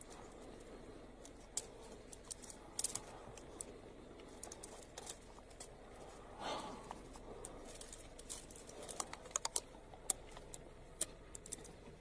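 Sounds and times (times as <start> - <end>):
animal chewing clicks and crackles: 0.0 - 6.2, 6.8 - 12.0
low steady hiss: 0.0 - 12.0.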